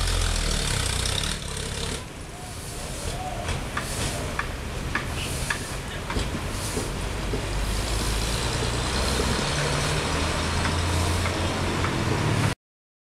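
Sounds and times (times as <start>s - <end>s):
engine running: 0.0s - 2.2s, 3.8s - 12.6s.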